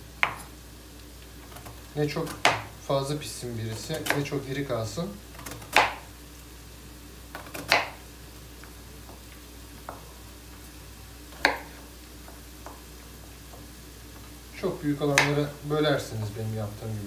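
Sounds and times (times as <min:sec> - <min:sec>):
onions sizzling in a pan: 0:00.0 - 0:17.0.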